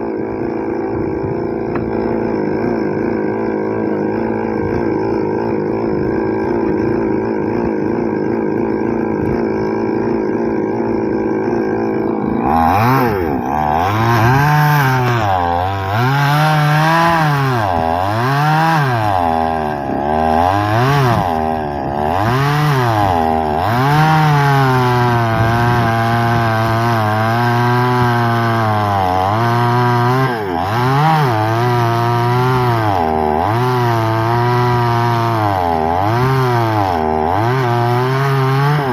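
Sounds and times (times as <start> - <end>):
chainsaw running: 0.0 - 38.9.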